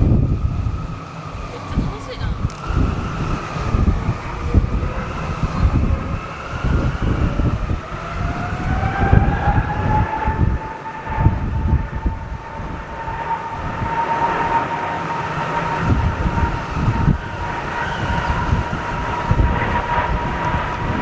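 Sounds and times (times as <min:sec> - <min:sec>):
jet engines whining: 0:00.0 - 0:21.0
wind buffeting microphone: 0:00.0 - 0:21.0.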